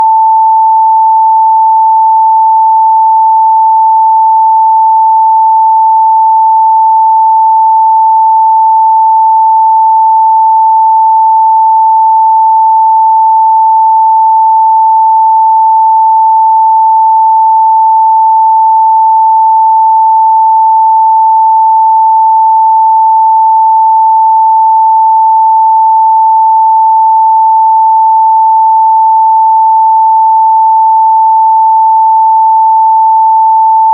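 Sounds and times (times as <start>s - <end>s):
sine test tone: 0.0s - 33.9s.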